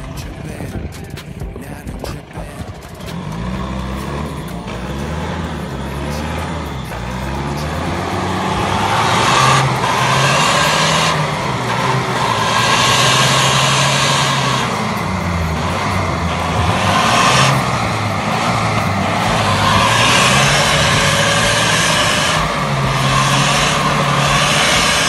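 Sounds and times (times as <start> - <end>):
engine revving: 0.0 - 25.0.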